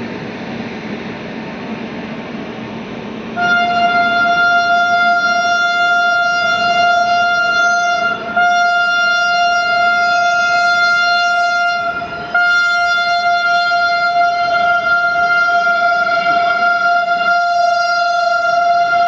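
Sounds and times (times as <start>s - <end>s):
train horn blasts: 3.3s - 19.0s.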